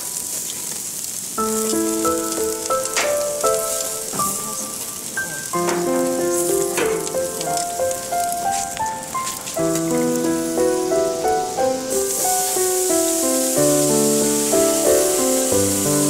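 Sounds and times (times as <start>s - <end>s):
potatoes sizzling on grill: 0.0s - 16.0s
music of held notes: 1.4s - 16.0s.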